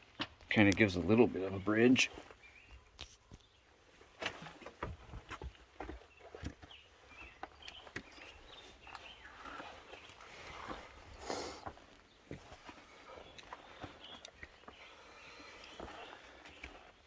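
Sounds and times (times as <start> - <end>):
footsteps on log and rock: 0.0 - 17.0.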